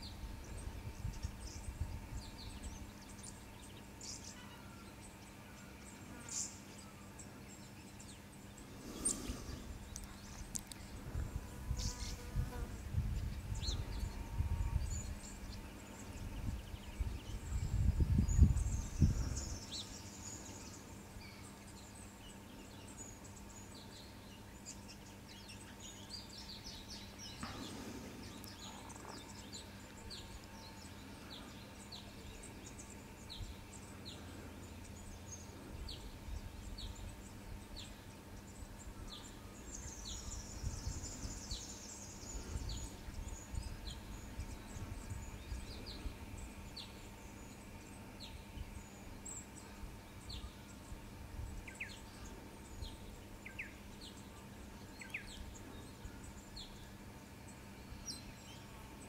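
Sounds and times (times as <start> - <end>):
birds calling: 0.0 - 59.0
faint steady hum: 0.0 - 59.0.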